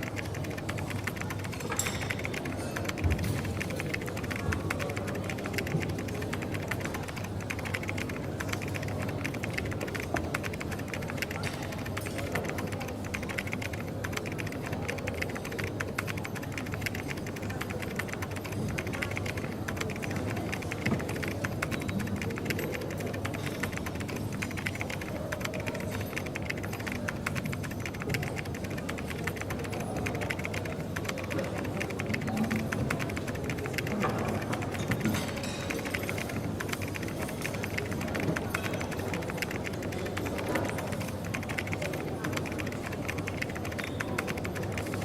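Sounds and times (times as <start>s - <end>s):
coffee shop background hum: 0.0s - 45.0s
rapid keyboard typing: 0.0s - 45.0s.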